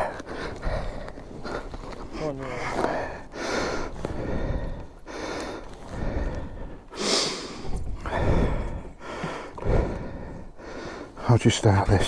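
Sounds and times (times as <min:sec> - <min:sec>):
person breathing heavily: 0:00.0 - 0:11.2.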